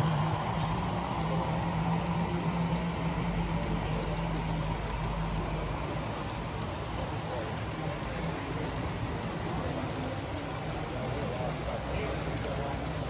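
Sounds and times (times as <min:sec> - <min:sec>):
steady low hum: 0:00.0 - 0:11.3
model train wheels clicking on rails: 0:00.0 - 0:13.0.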